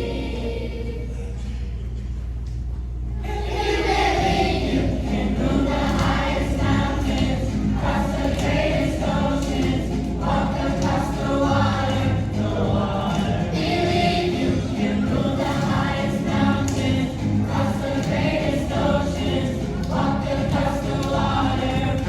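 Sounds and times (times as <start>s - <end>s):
children's choir singing: 0.0s - 1.6s, 3.2s - 22.0s.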